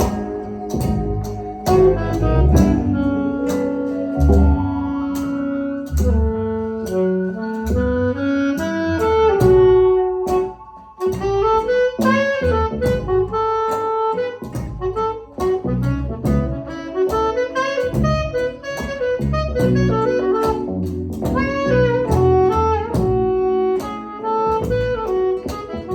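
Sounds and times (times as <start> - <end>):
live band music: 0.0 - 25.9
tapping beat: 0.0 - 25.9.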